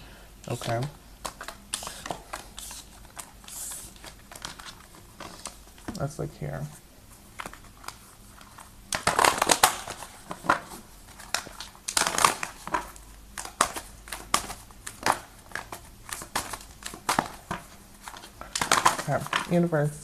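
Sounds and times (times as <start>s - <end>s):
cards being shuffled: 0.4s - 19.7s.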